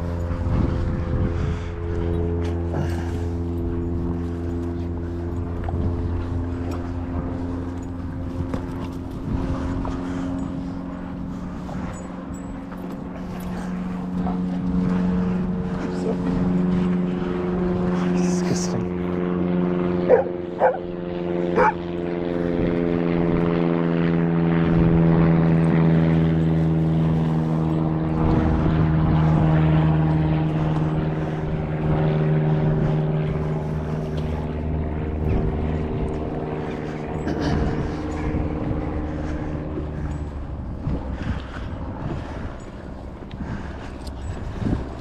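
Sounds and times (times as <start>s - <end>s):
motor engine droning past: 0.0s - 45.0s.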